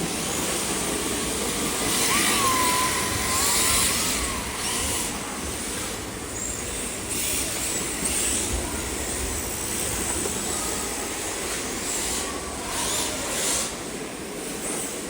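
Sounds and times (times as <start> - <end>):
toy car tyres hissing on track: 0.4 - 14.0.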